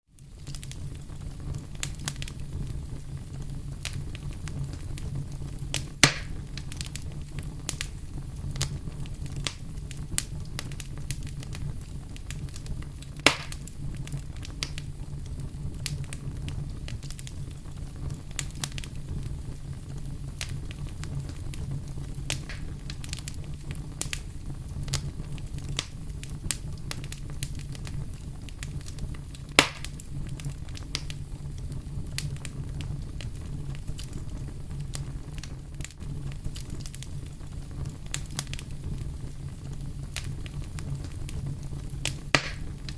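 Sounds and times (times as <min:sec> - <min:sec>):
campfire low rumble: 0:00.0 - 0:42.9
burning wood crackling and popping: 0:00.1 - 0:42.9.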